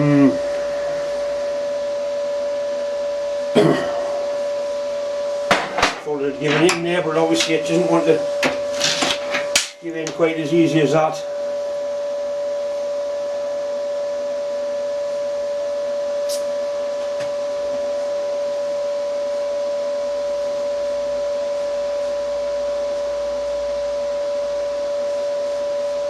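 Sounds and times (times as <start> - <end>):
machine whirring with whine: 0.0 - 26.0.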